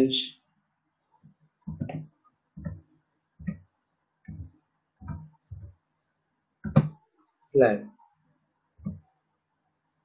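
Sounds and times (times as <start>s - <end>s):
keyboard keys tapping: 0.9s - 7.2s, 8.0s - 10.0s.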